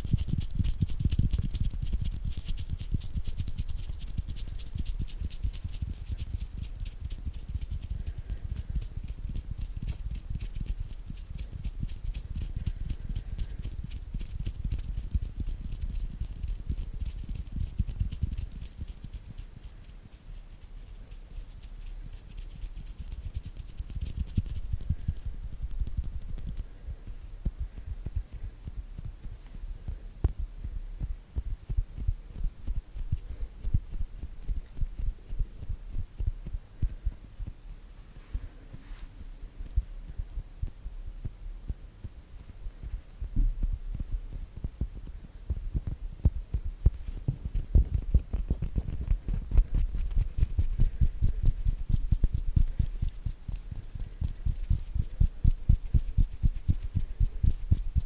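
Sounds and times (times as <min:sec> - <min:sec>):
hands rubbing and tapping microphone: 0:00.0 - 0:58.0.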